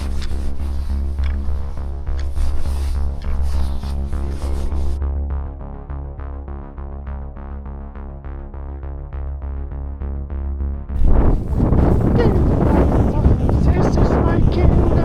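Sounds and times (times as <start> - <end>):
pulsing bass: 0.0 - 15.0.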